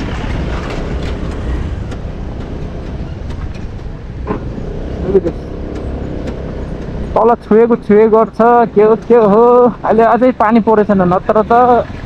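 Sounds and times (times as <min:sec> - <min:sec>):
scooter engine and road rumble: 0:00.0 - 0:12.0.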